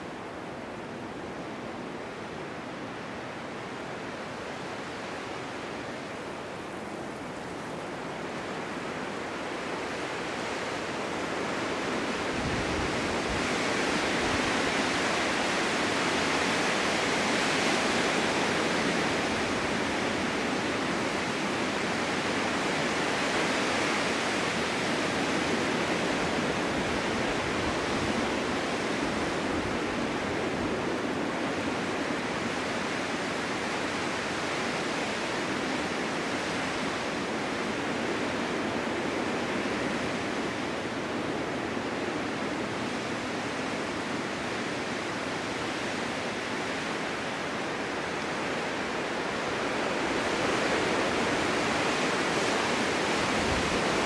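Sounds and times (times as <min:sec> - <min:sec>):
snowstorm wind blowing: 0:00.0 - 0:54.0.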